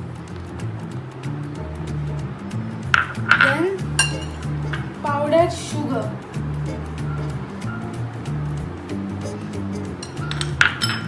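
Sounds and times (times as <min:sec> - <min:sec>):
background music with low notes: 0:00.0 - 0:11.0.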